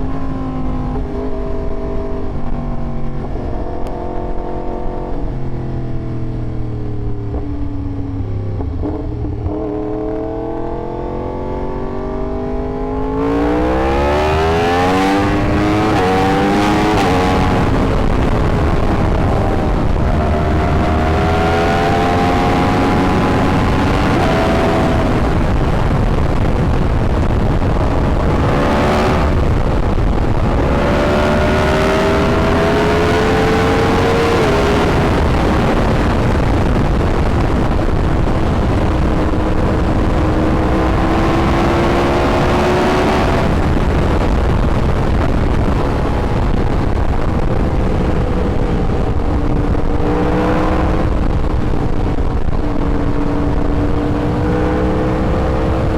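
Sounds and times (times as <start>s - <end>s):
motorcycle engine revving: 0.0s - 55.9s
wind rushing: 6.8s - 55.9s.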